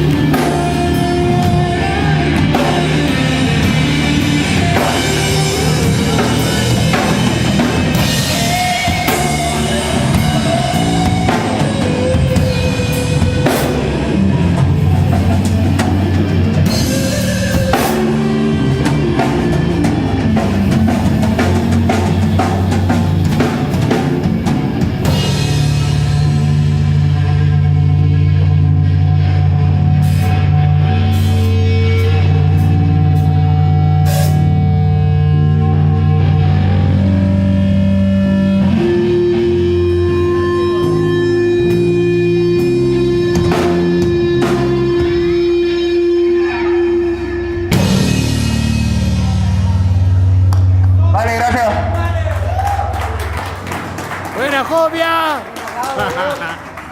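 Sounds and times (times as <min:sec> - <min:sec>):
live rock band playing: 0:00.0 - 0:56.9.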